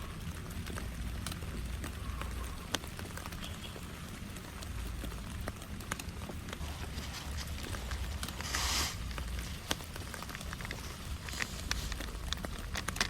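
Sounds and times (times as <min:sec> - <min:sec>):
raindrops clicking on surface: 0:00.0 - 0:13.0.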